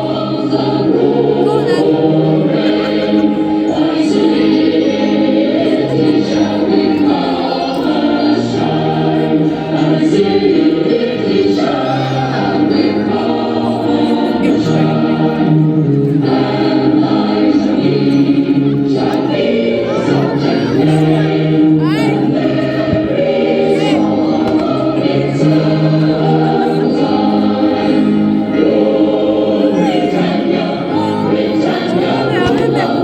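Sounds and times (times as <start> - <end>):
choir singing sustained chords: 0.0 - 33.0.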